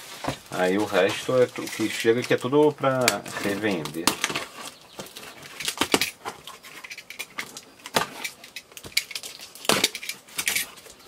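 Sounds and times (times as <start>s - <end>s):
cardboard flaps scraping and rustling: 0.0s - 11.0s.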